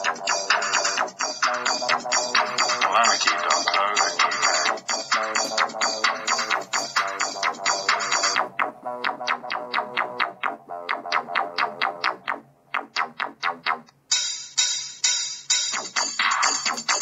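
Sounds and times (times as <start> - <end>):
electronic music with plucked synth: 0.0 - 17.0.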